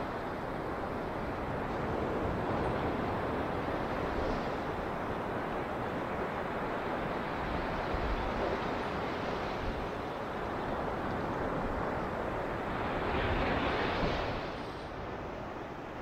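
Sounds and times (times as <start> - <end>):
waves washing on beach: 0.0 - 16.0.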